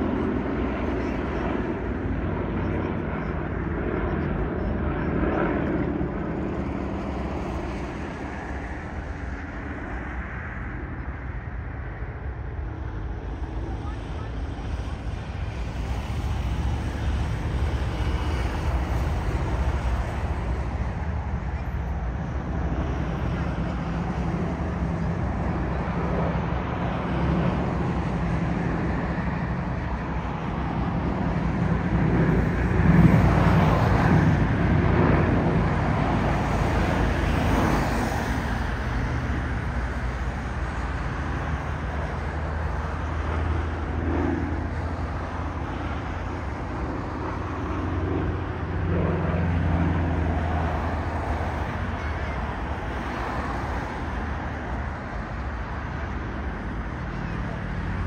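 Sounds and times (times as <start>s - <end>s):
propeller aircraft droning overhead: 0.0s - 58.0s.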